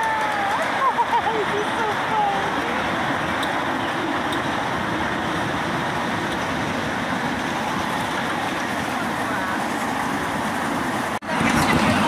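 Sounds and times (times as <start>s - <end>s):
miniature train rumbling on track: 0.0s - 12.0s.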